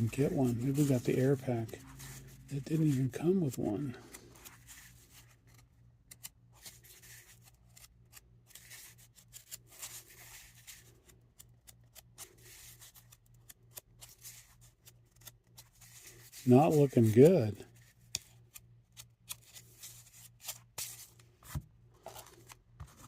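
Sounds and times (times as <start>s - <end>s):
cardboard cards handled: 0.0s - 23.0s.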